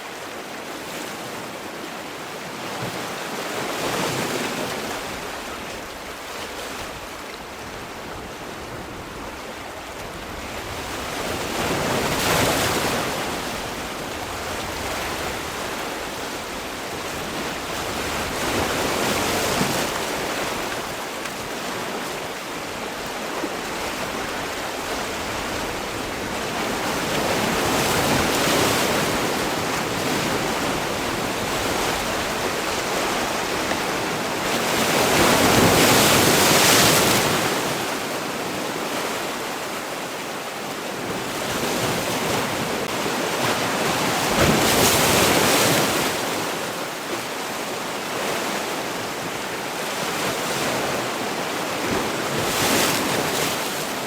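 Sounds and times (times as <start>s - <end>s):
sea waves rolling in: 0.0s - 54.0s.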